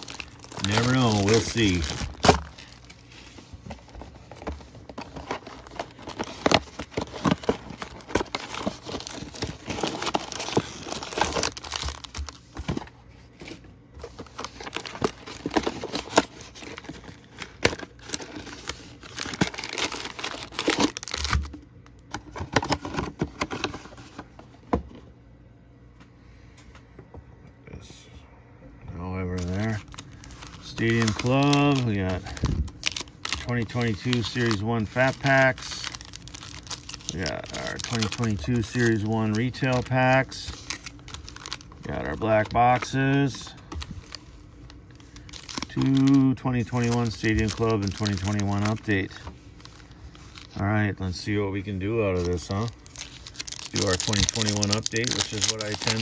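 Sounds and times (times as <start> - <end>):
plastic wrappers tearing and crinkling: 0.0 - 12.8, 13.4 - 24.0, 29.2 - 56.0.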